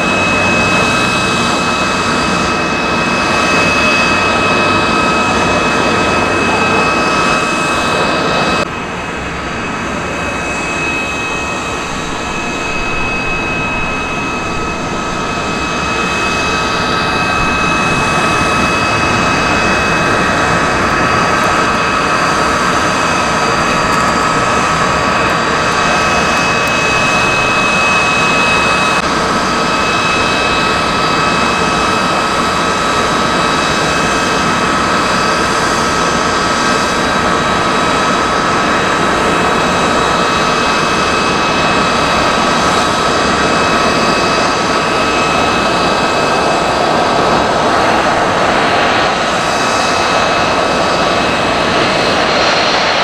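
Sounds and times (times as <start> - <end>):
jet engine roar and whine: 0.0 - 53.0.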